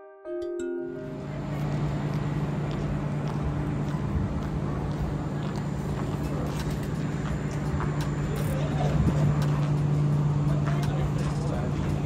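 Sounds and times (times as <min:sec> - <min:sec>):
machinery humming: 0:00.7 - 0:12.0.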